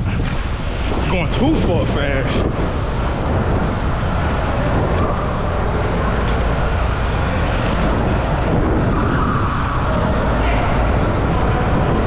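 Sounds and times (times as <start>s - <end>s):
road and traffic noise: 0.0s - 12.0s
wind buffeting microphone: 0.0s - 12.0s.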